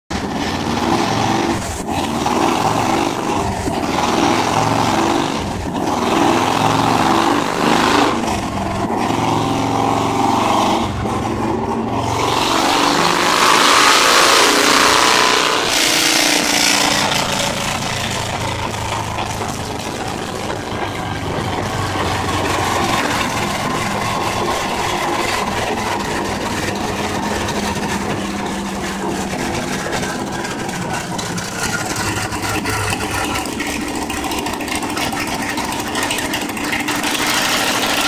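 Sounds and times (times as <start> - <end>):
motorcycle engine revving: 0.1 - 38.0.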